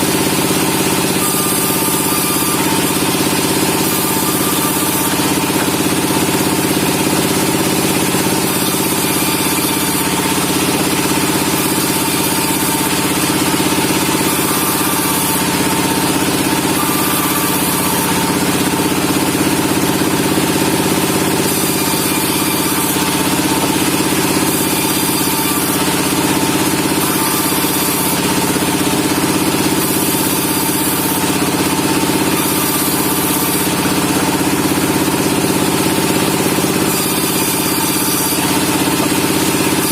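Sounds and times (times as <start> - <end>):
log saw humming and whining: 0.0 - 39.9.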